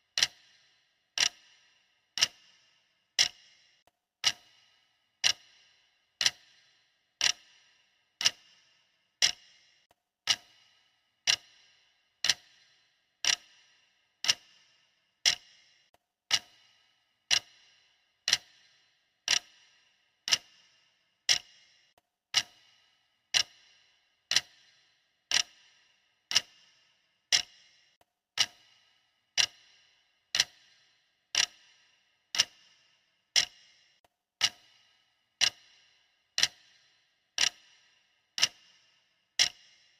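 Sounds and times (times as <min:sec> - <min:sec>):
stopwatch ticking: 0:00.0 - 0:39.9.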